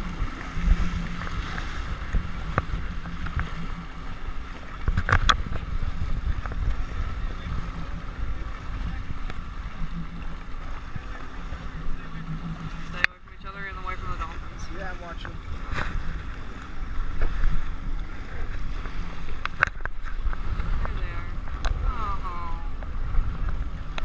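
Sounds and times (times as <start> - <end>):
jet ski engine humming: 0.0 - 24.0
water sloshing against hull: 0.0 - 24.0
wind on microphone: 0.0 - 24.0.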